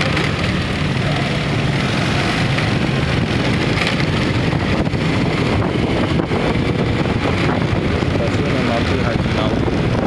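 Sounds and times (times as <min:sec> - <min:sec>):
engines running: 0:00.0 - 0:10.0
tyres on a wet road: 0:00.0 - 0:10.0.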